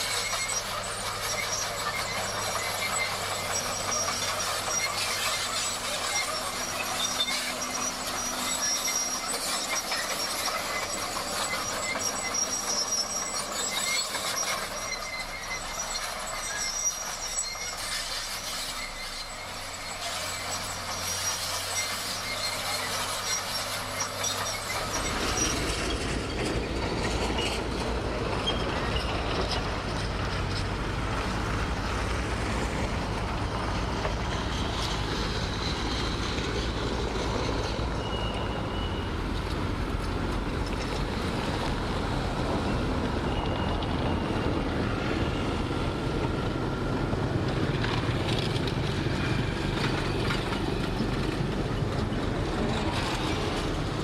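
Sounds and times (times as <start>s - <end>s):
crawler tracks squealing: 0.0s - 54.0s
heavy machinery engine rumble: 0.0s - 54.0s.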